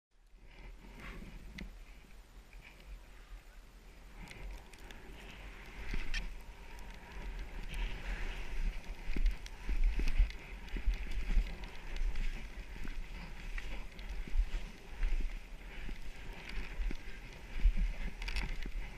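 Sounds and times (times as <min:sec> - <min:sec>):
snow hissing and crunching: 0:02.6 - 0:18.9
wind buffeting microphone: 0:03.2 - 0:18.9.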